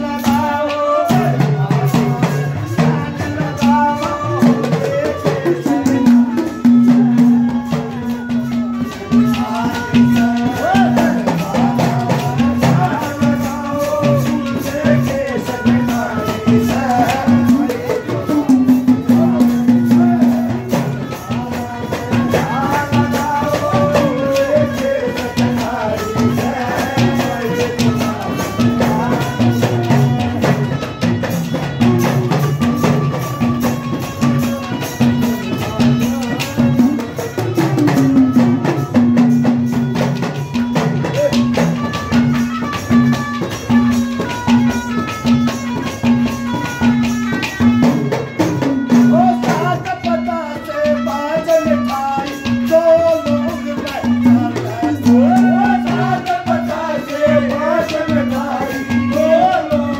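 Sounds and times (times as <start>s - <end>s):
fast drum and pot percussion: 0.0s - 59.9s.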